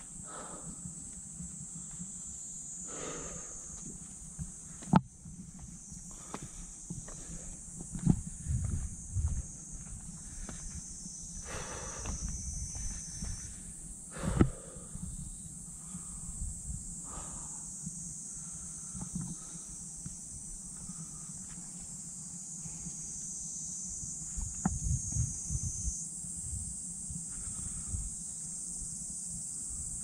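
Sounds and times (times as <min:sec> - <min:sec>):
cicadas droning: 0:00.0 - 0:30.0.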